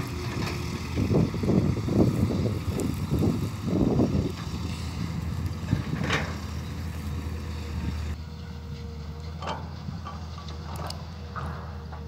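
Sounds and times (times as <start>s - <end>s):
distant truck diesel engine rumble: 0.0s - 12.0s.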